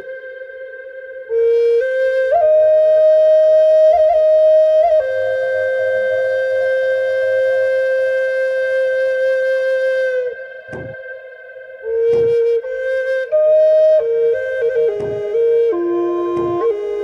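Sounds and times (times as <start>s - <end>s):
flute holding long note: 0.0s - 17.0s.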